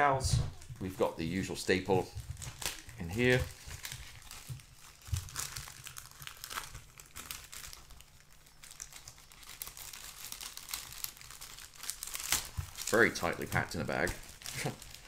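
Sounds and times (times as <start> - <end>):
plastic bag crinkling: 0.6 - 15.0.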